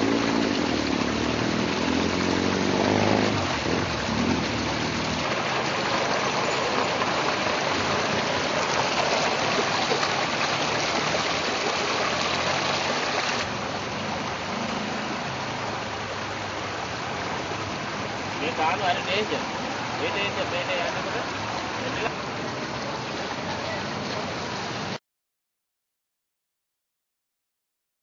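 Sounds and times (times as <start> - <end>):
floodwater rushing and splashing: 0.0 - 25.0.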